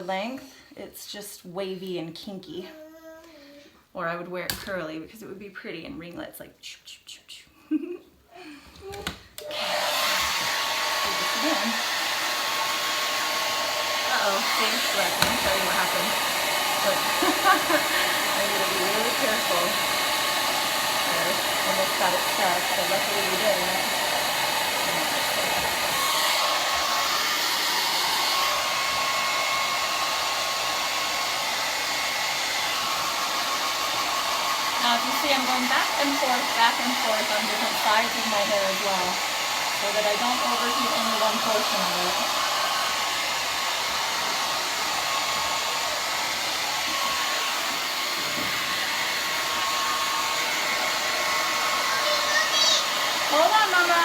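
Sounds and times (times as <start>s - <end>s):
hair dryer blowing: 7.7s - 54.0s.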